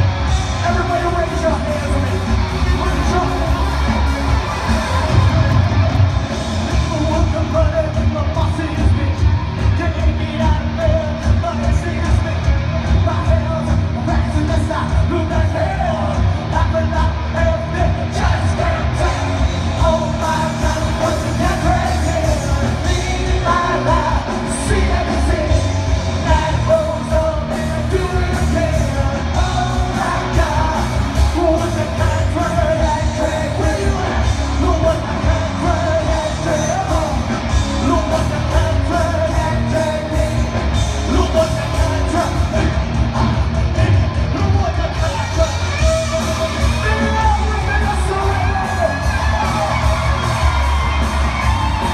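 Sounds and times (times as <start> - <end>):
heavy bass: 0.0 - 51.9
loud live concert music: 0.0 - 51.9.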